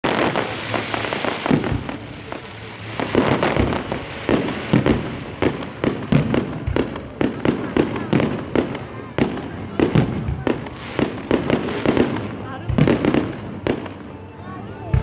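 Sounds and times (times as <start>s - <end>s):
firework bangs: 0.0s - 14.2s
crackling hiss: 0.0s - 14.4s.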